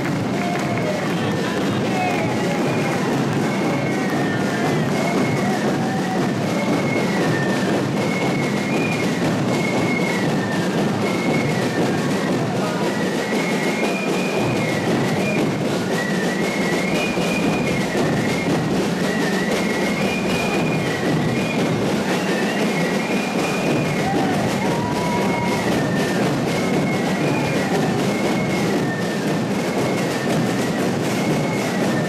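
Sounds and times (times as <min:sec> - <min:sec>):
fifes playing march melody: 0:00.0 - 0:32.0
snare drums rattling: 0:00.0 - 0:32.0.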